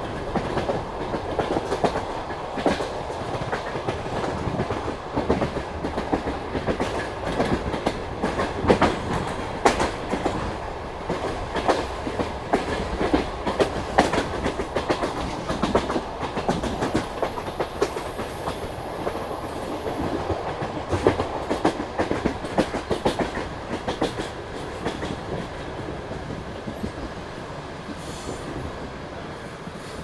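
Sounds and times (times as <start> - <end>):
train wheels clattering on rails: 0.0 - 28.9.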